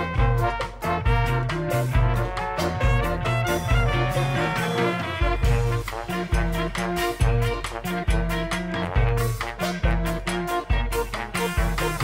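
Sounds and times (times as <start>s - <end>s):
upbeat swing band music: 0.0s - 12.0s.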